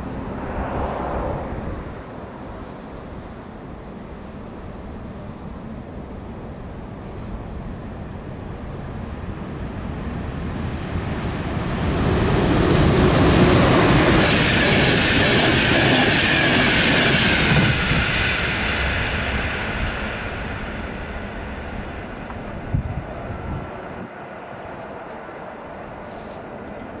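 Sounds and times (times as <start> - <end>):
train rushing past: 0.0 - 27.0
train whine: 0.0 - 27.0.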